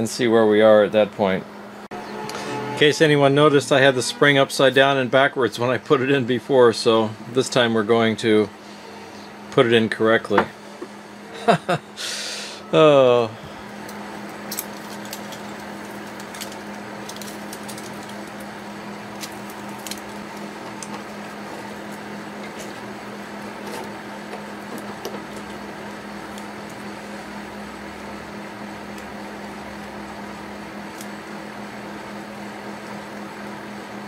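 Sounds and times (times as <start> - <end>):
machine hum: 0.0 - 34.0.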